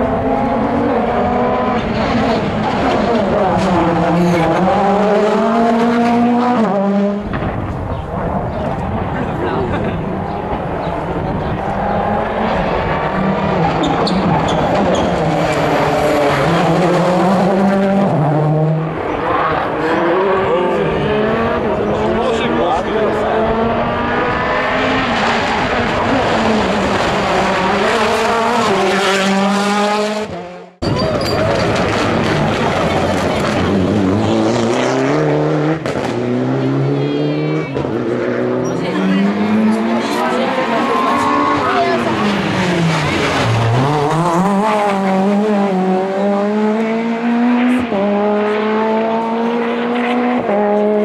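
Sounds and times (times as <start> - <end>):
rally car engine at high revs: 0.0 - 30.8, 31.5 - 51.0.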